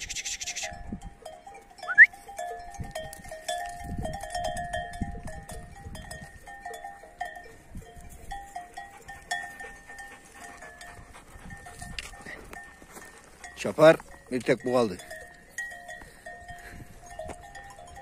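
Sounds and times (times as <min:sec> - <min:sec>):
sheep bells clinking: 0:00.0 - 0:18.0.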